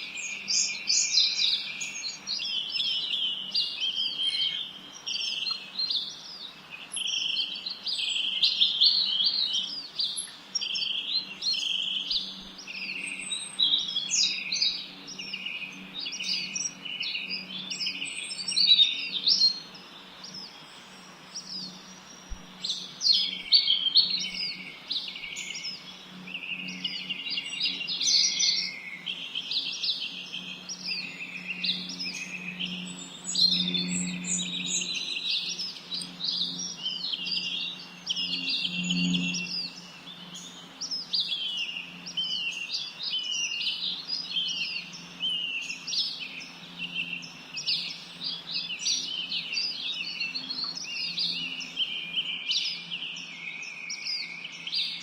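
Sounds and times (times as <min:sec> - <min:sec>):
songbirds singing and chirping: 0:00.0 - 0:55.0.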